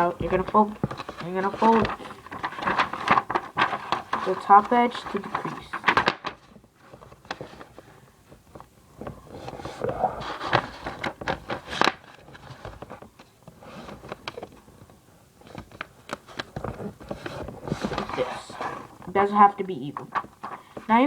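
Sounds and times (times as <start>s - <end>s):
paper being folded and creased: 0.0s - 20.8s.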